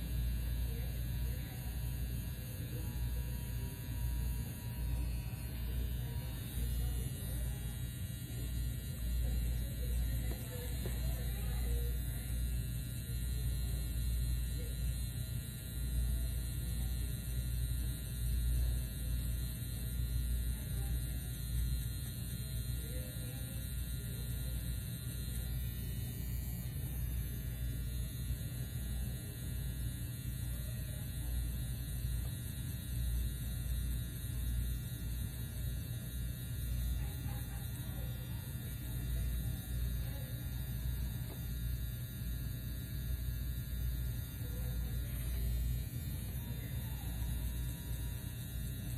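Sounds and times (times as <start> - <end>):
tattoo machine buzzing: 0.0 - 48.9.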